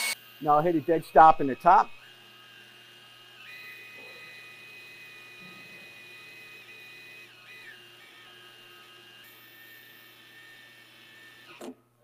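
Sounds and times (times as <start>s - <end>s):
cordless drill whining: 0.0s - 11.8s.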